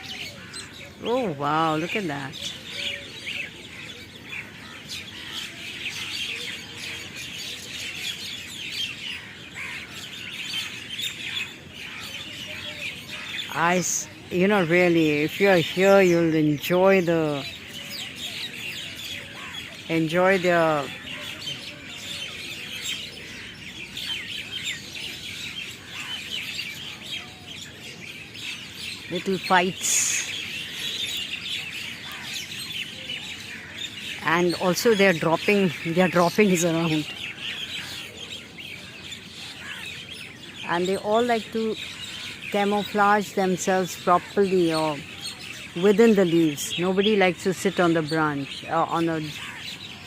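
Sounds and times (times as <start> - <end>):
flock of birds chirping: 0.0 - 50.0.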